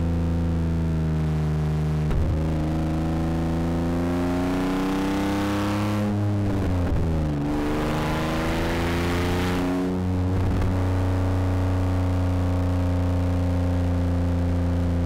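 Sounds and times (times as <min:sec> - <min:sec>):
rally car engine accelerating: 0:00.2 - 0:15.0.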